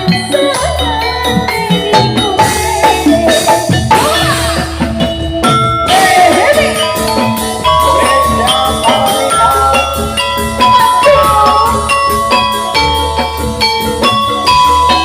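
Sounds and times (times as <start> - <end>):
gliding melody line: 0.0 - 15.0
ringing metallophone notes: 0.0 - 15.0.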